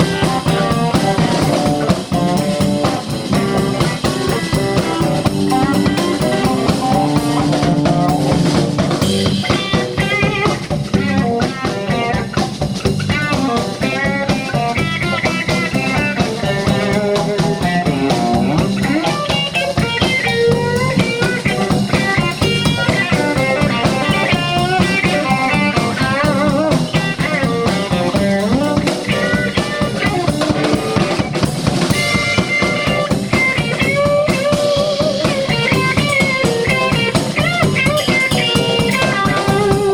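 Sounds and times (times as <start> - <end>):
bass groove: 0.0 - 39.9
blues guitar with bending notes: 0.0 - 39.9
drum kit: 0.0 - 39.9.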